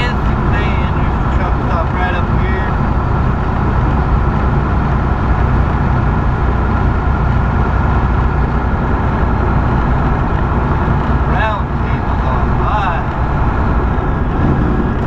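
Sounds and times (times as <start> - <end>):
road noise: 0.0 - 15.0
truck diesel engine driving: 0.0 - 15.0.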